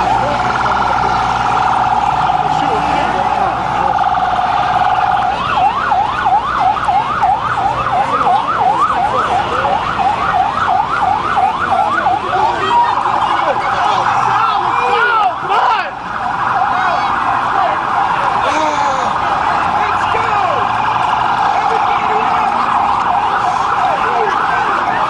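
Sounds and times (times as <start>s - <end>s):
emergency siren yelping: 0.0s - 25.0s
overlapping siren sweeps: 0.0s - 25.0s.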